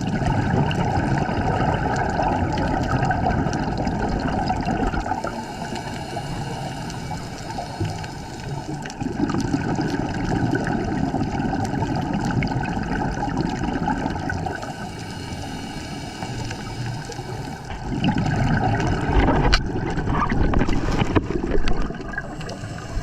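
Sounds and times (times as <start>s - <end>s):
underwater bubbles gurgling: 0.0s - 23.0s.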